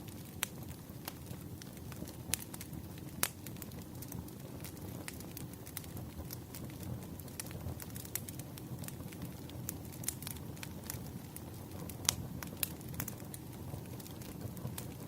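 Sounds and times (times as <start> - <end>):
fire low rumble: 0.0 - 15.0
wood fire crackling and popping: 0.0 - 15.0.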